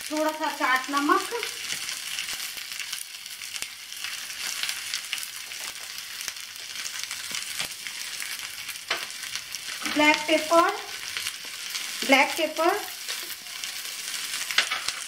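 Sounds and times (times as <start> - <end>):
ghee sizzling in a pan: 0.0 - 15.0.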